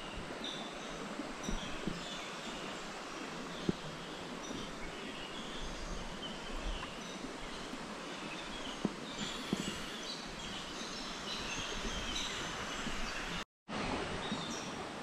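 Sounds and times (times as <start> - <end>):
rainforest noise bed: 0.0 - 15.0.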